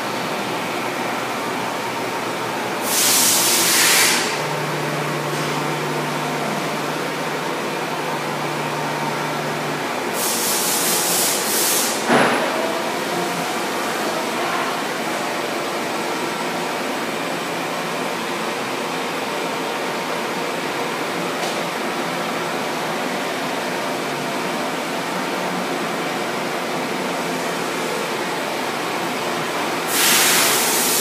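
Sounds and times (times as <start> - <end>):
steady mechanical noise: 0.0 - 31.0.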